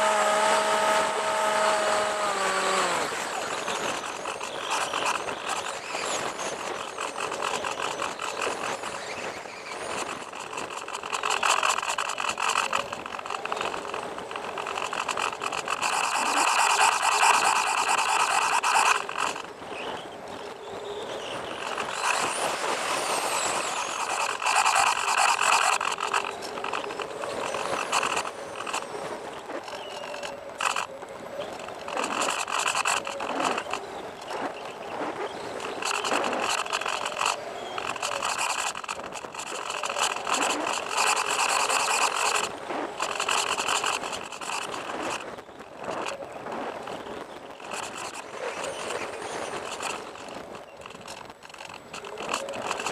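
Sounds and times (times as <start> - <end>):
electric motor and propeller whining: 0.0 - 52.9.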